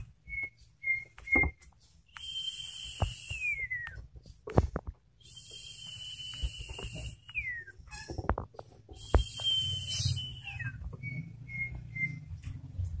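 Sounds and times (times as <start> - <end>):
bird whistling: 0.0 - 4.0, 5.2 - 8.2, 8.9 - 12.4.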